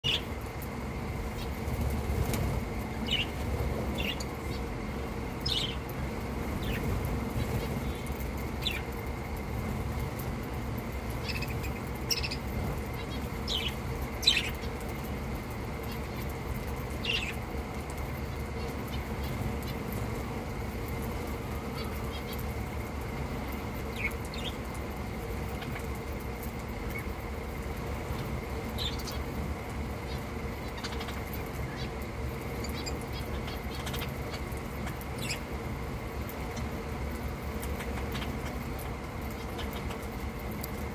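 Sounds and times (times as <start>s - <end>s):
steady low rumble: 0.1s - 40.9s.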